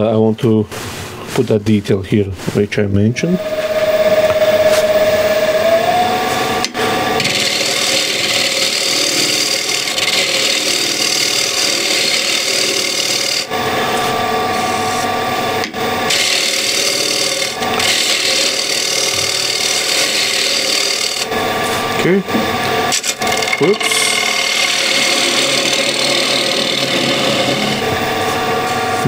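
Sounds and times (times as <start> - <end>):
wood lathe motor hum: 3.2 - 29.0
tool rasping on spinning wood: 3.4 - 29.0.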